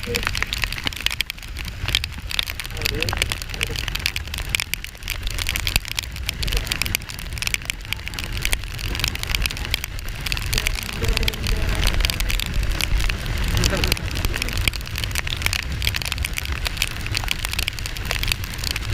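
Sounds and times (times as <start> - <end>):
motorcycle engine rumble: 0.0 - 18.9
raindrops striking microphone: 0.0 - 18.9
wind on microphone: 0.0 - 18.9.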